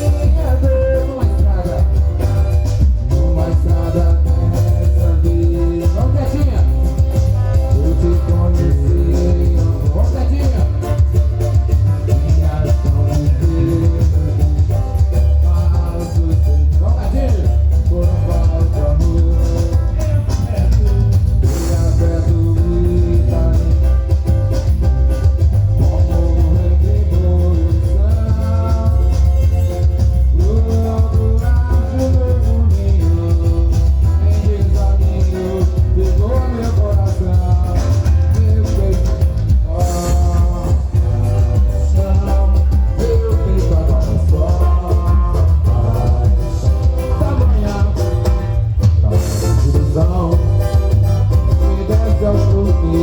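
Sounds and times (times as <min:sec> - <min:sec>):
person singing: 0:00.0 - 0:24.5, 0:25.2 - 0:53.0
heavy bass and guitar: 0:00.0 - 0:53.0
upbeat samba music: 0:00.0 - 0:53.0.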